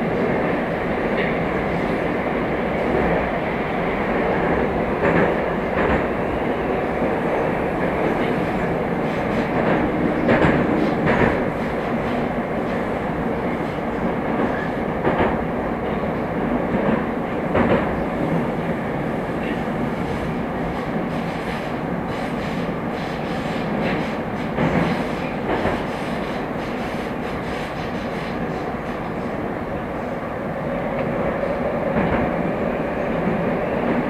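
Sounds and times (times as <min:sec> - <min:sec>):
train rumbling at speed: 0:00.0 - 0:34.0.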